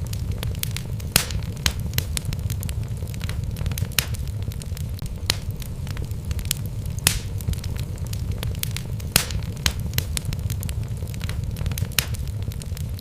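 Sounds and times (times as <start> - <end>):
fire rumbling in fireplace: 0.0 - 13.0
wood crackling and popping: 0.0 - 13.0.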